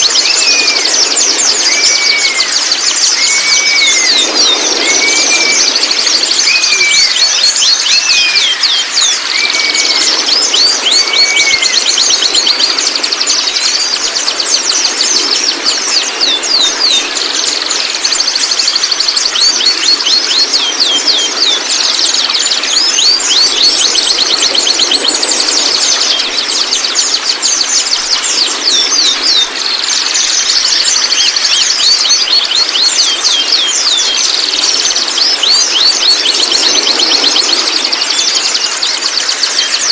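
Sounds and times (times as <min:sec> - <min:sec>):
birds calling high notes: 0:00.0 - 0:39.9
lower slurred bird whistles: 0:00.0 - 0:39.9.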